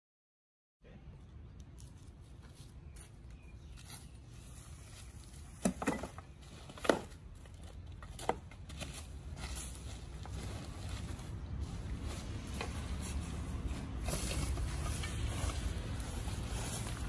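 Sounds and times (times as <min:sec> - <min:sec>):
tarpaulin and debris rustling: 0:01.2 - 0:17.0.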